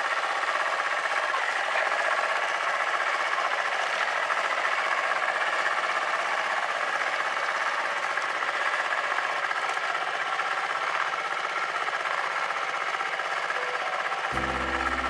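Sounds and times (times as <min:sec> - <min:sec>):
small engine running with rattle: 0:00.0 - 0:15.0.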